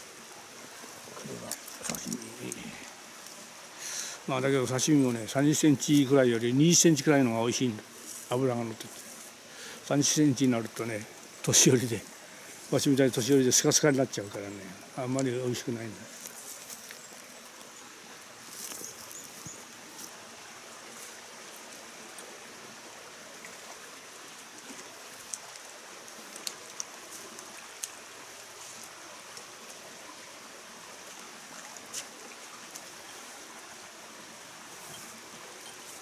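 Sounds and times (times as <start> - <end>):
stream flowing over rocks: 0.0 - 36.0.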